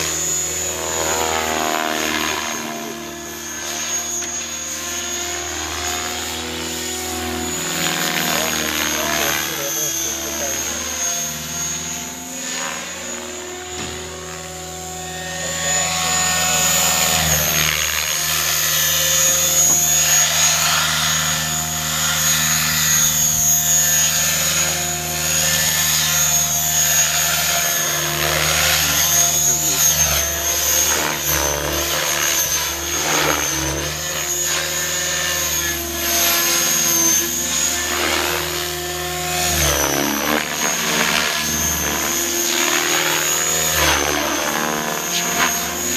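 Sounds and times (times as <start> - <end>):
model helicopter rotor whine: 0.0 - 45.9
steady high whine: 0.0 - 45.9.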